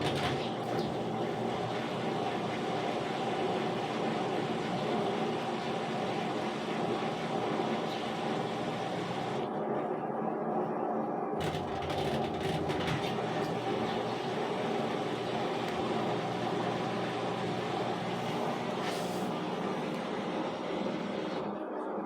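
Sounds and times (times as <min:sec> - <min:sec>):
washer-dryer drone and hum: 0:00.0 - 0:22.0.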